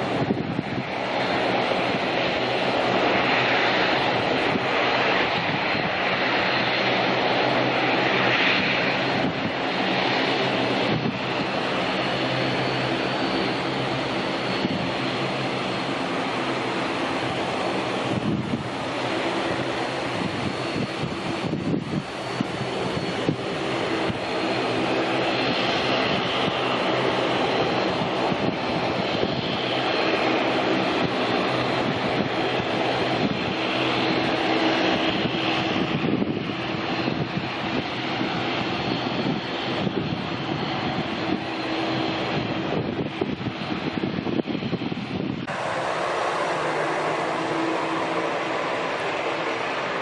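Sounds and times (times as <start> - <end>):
high engine whine: 0.0 - 50.0
jet engines roaring: 0.0 - 50.0.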